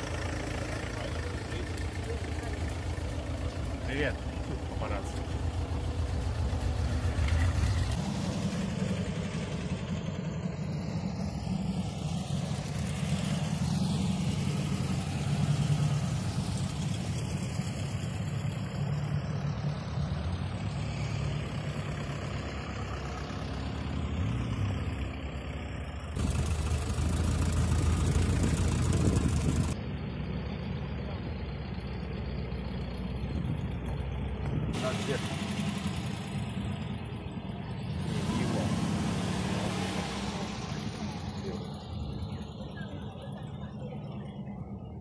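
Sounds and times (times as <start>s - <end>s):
van engines droning: 0.0s - 45.0s.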